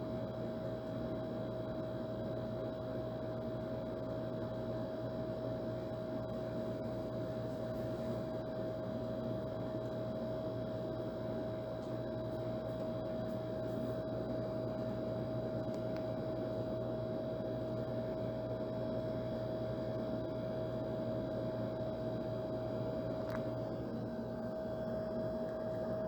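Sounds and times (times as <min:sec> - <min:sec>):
air conditioner humming: 0:00.0 - 0:26.0.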